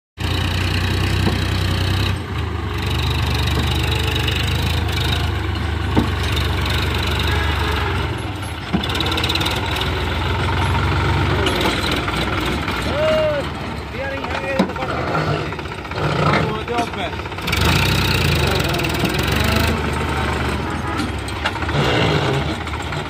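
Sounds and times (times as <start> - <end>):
tractor diesel engine running: 0.2 - 23.0.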